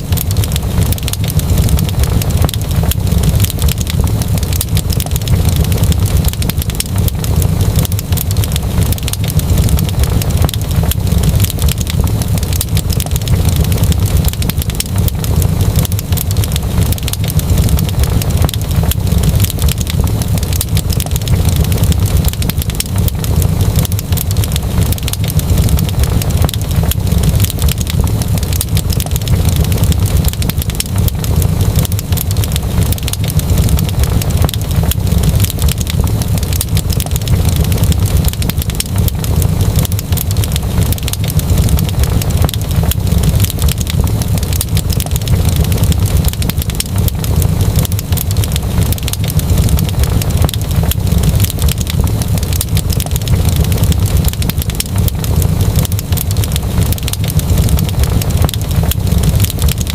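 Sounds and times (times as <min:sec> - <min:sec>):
low rumble of burning fire: 0:00.0 - 0:59.9
wood fire crackling: 0:00.0 - 0:59.9.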